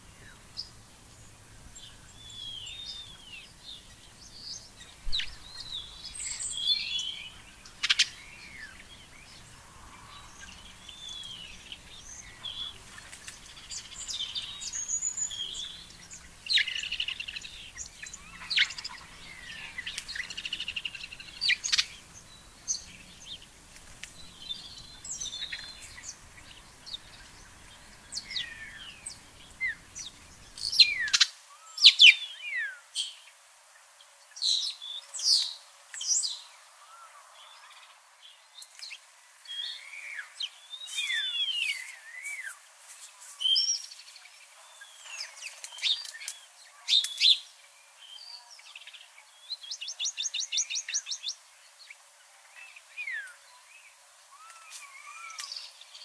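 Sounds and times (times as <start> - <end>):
birds chirping and singing: 0.0 - 33.2, 38.6 - 51.4.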